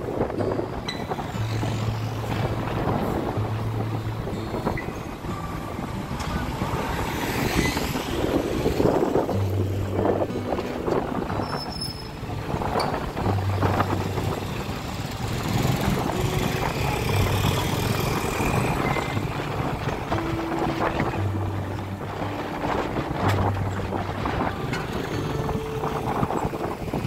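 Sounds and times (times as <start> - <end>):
background music with low note: 0.0 - 27.0
motorbike engine: 0.0 - 27.0
street traffic: 0.0 - 27.0.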